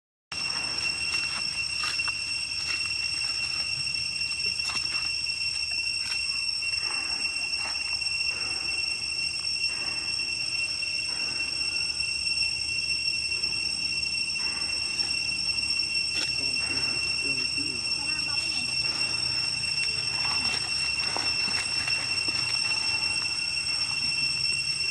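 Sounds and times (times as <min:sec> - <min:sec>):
insects droning: 0:00.3 - 0:24.9.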